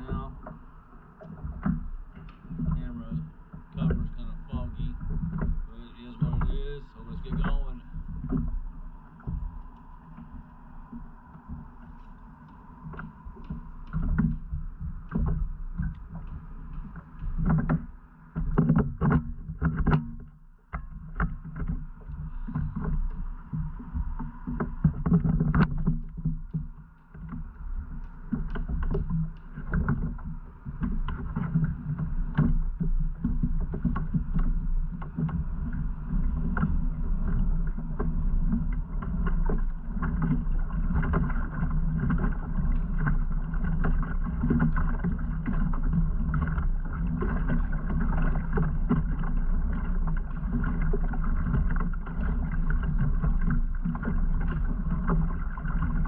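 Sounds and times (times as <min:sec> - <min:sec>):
water and hull rumble: 0:00.0 - 0:56.0.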